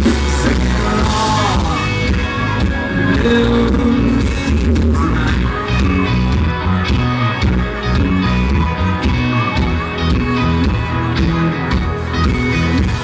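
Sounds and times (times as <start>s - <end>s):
electric guitar: 0.0s - 13.0s
heavy bass: 0.0s - 13.0s.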